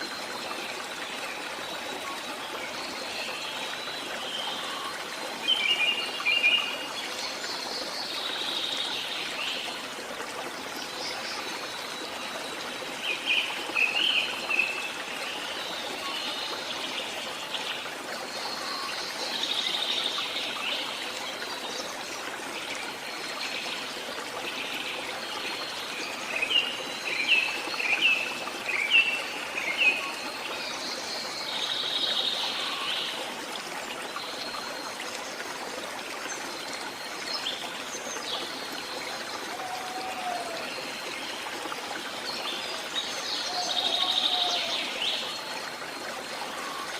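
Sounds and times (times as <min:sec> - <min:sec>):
water trickling: 0:00.0 - 0:46.9.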